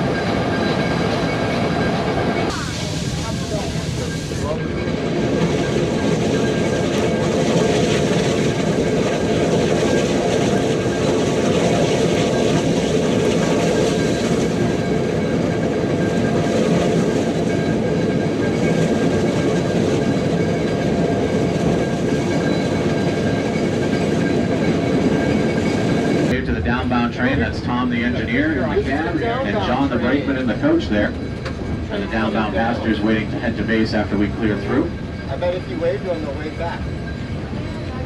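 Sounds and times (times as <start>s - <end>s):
steam train rumbling and rattling: 0.0s - 38.0s.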